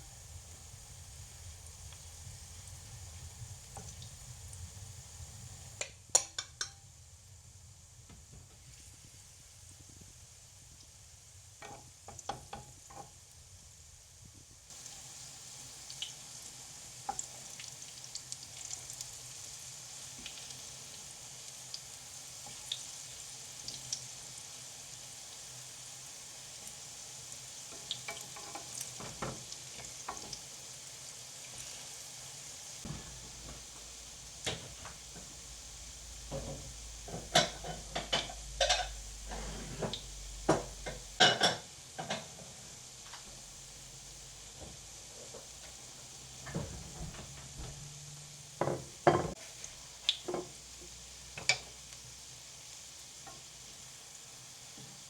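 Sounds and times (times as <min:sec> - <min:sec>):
pancakes sizzling in hot oil: 0:00.0 - 0:55.0.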